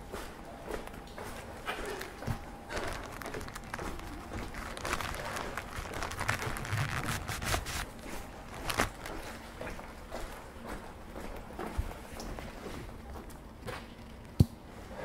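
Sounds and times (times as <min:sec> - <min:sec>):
footsteps on street: 0:00.0 - 0:13.8.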